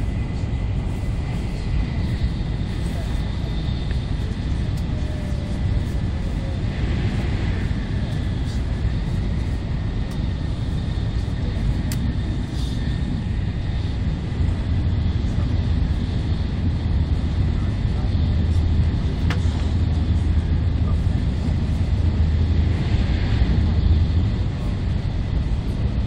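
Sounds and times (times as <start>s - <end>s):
train cabin low rumble: 0.0s - 26.0s.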